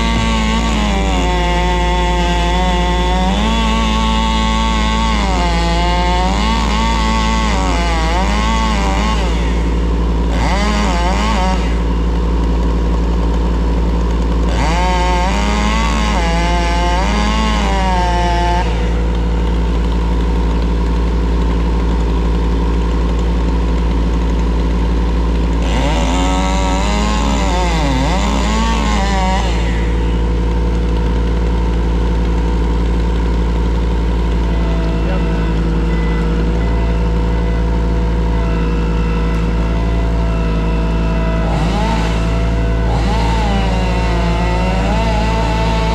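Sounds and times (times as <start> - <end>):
chainsaw revving and cutting: 0.0 - 45.9
loader engine droning: 0.0 - 45.9.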